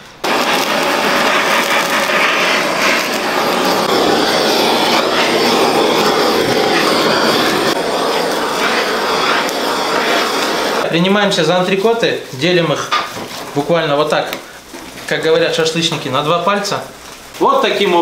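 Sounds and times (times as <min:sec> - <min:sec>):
gas torch hissing: 0:00.0 - 0:17.4.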